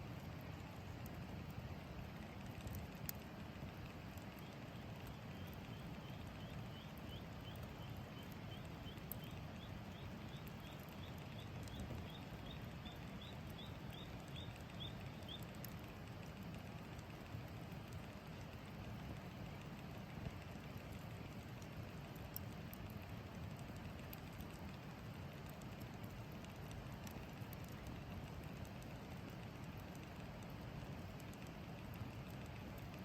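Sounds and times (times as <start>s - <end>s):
campfire burning: 0.0s - 33.0s.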